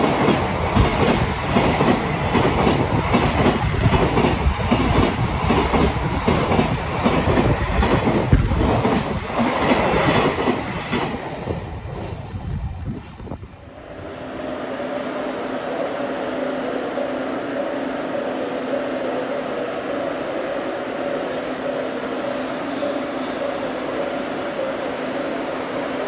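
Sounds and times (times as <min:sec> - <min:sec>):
heavy train rumble: 0:00.0 - 0:26.0.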